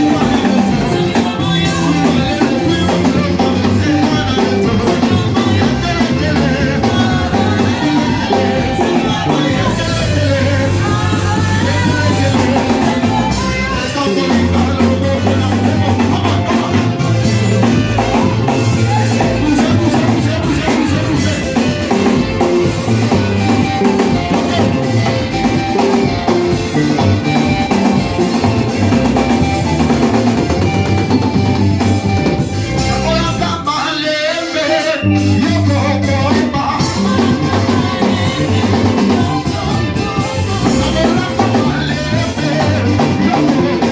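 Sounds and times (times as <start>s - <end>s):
bass: 0.0s - 43.9s
drum kit: 0.0s - 43.9s
people singing: 0.0s - 43.9s
worship band playing: 0.0s - 43.9s.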